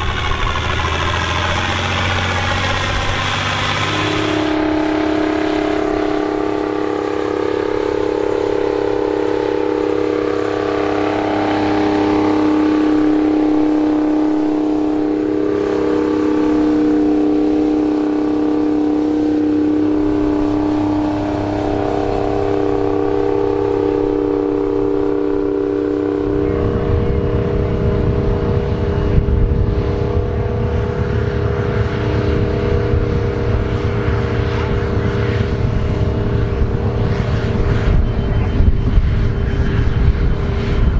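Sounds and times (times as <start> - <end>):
tractor engines droning: 0.0 - 40.9.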